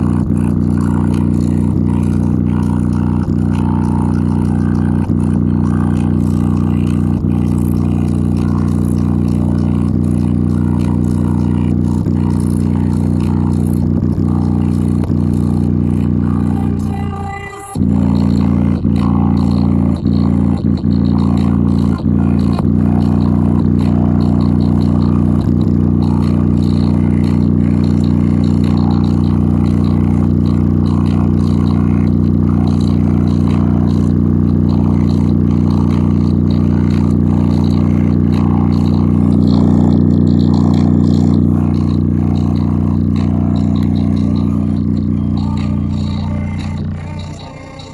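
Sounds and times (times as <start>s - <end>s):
bass-heavy music from a speaker: 0.0s - 47.9s.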